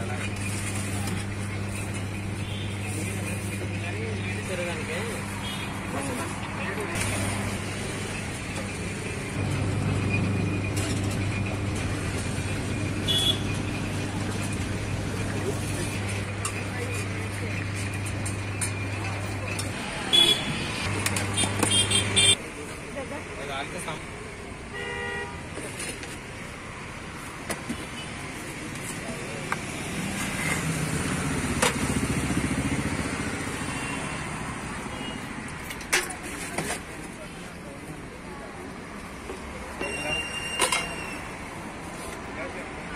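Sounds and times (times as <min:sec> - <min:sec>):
road traffic engine hum: 0:00.0 - 0:42.9.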